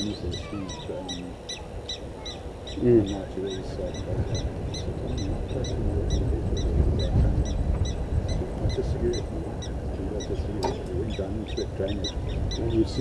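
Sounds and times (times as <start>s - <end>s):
bird calling in high notes: 0.0s - 12.8s
steady low rumble: 0.0s - 13.0s.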